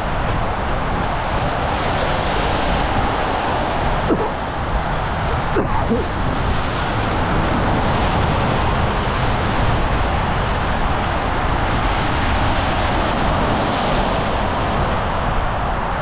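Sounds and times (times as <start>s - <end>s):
street traffic: 0.0s - 16.0s
wind against microphone: 0.0s - 16.0s.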